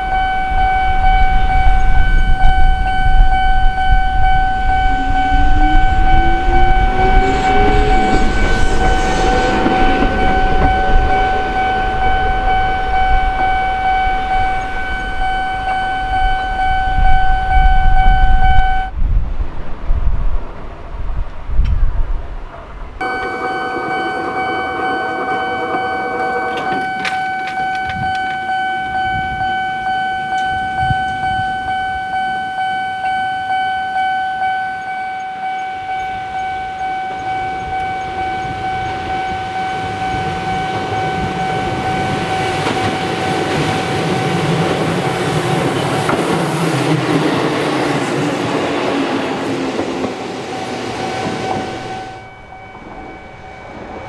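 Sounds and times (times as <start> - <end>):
level-crossing bell ringing: 0.0 - 18.9, 23.0 - 54.0
train running rumble: 0.0 - 33.7, 34.8 - 54.0.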